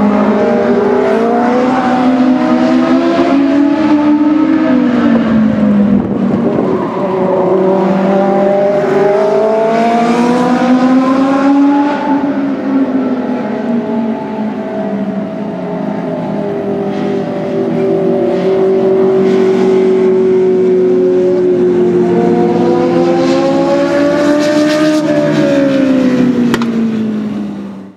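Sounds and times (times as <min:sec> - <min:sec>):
race car passing by: 0:00.0 - 0:27.8
race car engines at speed: 0:00.0 - 0:27.9.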